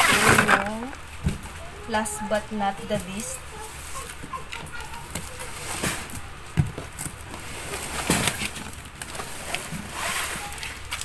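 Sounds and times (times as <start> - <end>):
cardboard scraping rustles: 0.0 - 1.6, 3.0 - 11.0.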